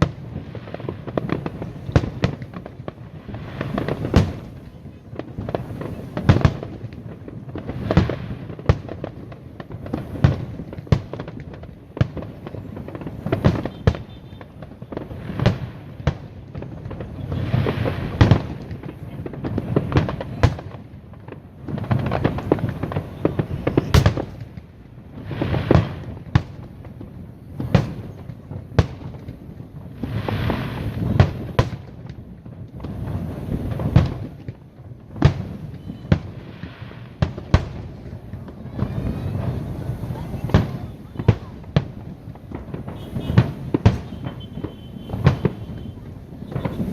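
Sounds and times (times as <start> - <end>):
fireworks crackle and rumble: 0.0 - 46.9.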